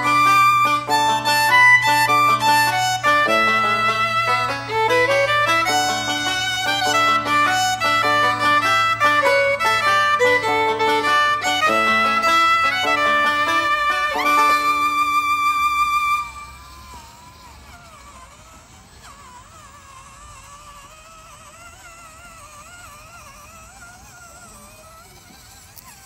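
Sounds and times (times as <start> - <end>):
fiddle music: 0.0 - 26.0
toy car electric motor whine: 0.0 - 26.0.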